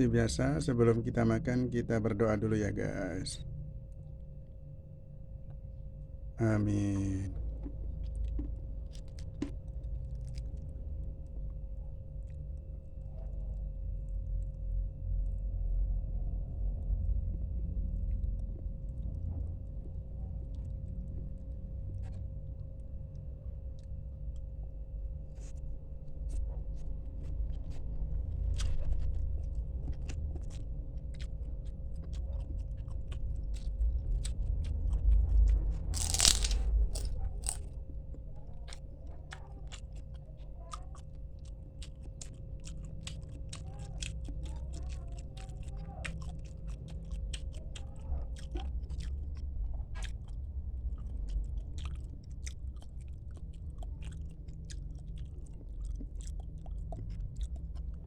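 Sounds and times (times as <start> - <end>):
crunching and chewing: 6.9 - 15.6, 17.3 - 58.0.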